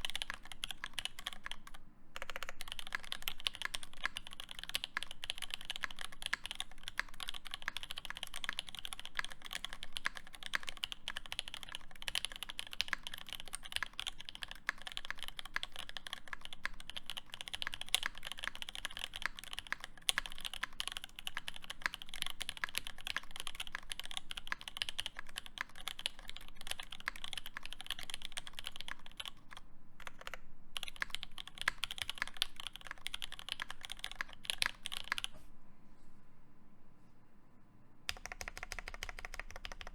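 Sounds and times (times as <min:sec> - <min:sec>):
rapid mechanical keyboard typing: 0:00.0 - 0:35.3, 0:38.1 - 0:39.9.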